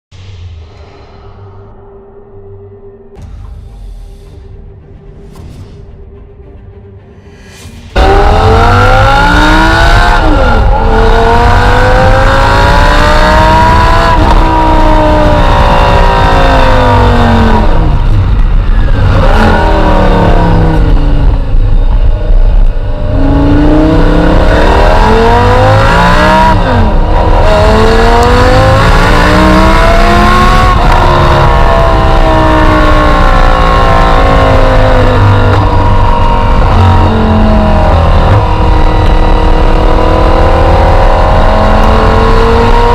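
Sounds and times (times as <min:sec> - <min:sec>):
sports car engine accelerating: 0:06.5 - 0:42.9.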